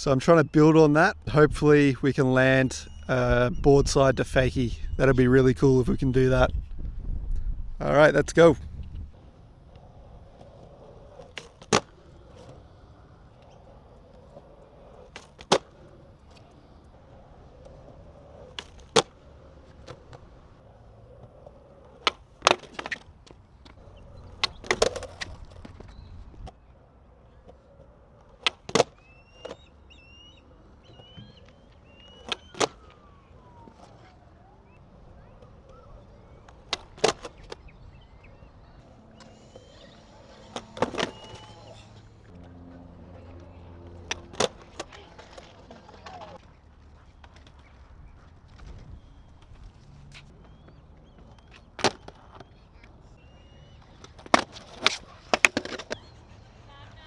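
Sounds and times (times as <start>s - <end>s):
skateboard wheels rolling on concrete: 0.0s - 57.0s
skateboard tail clacking: 9.1s - 57.0s.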